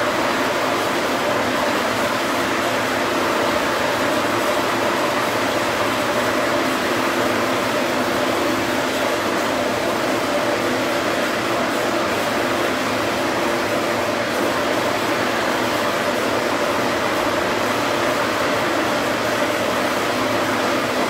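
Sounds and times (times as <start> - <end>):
large cooling fan blowing: 0.0 - 21.0.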